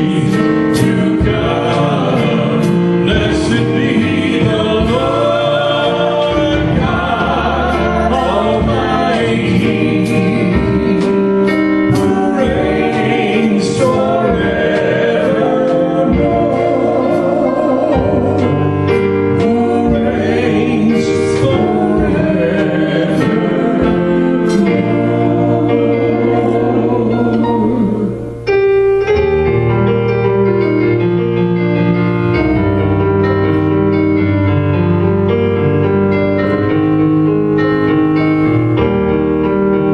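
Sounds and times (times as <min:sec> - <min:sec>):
gospel singing: 0:00.0 - 0:39.9
keyboard playing: 0:00.0 - 0:39.9.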